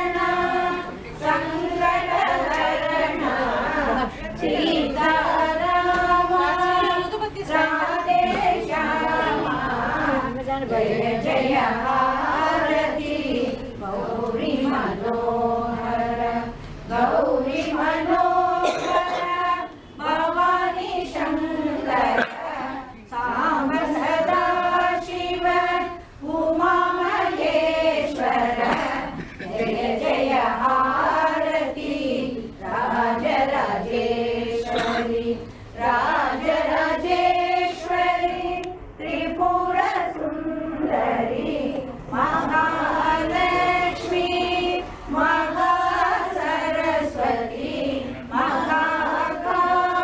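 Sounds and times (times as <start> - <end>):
women singing a hymn in unison: 0.0 - 50.0.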